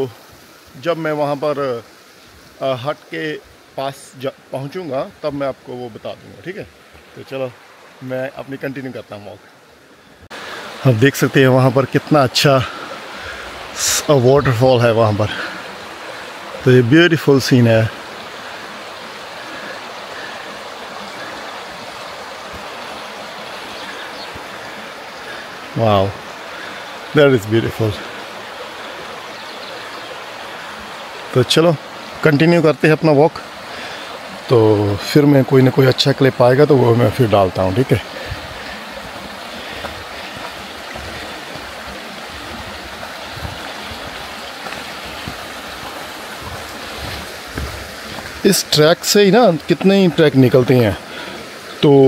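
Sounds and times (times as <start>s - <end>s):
waterfall and stream rushing: 0.0s - 52.0s.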